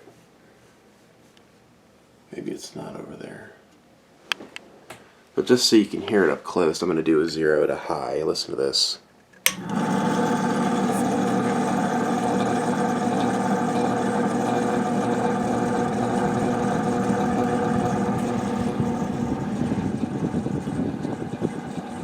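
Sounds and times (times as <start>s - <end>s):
ceiling fan hum and whir: 0.0s - 22.0s.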